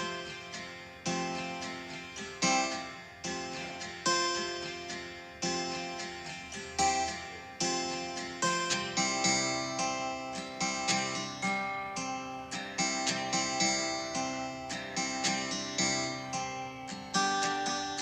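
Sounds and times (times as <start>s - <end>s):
plucked string notes: 0.0s - 18.0s.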